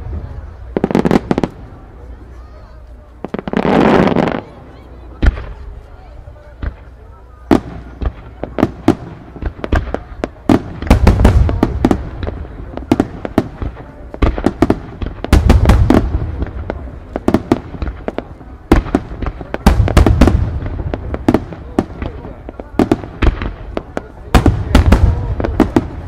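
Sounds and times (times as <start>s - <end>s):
fireworks bangs and booms: 0.0s - 26.0s.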